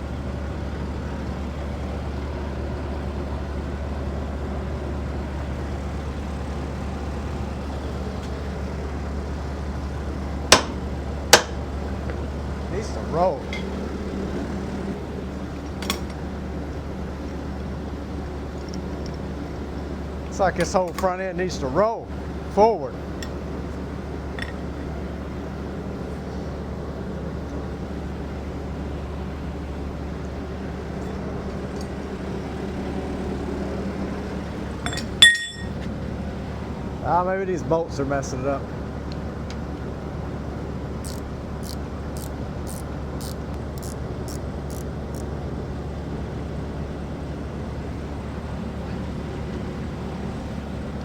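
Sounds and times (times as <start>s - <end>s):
low hum with rushing noise: 0.0s - 51.0s.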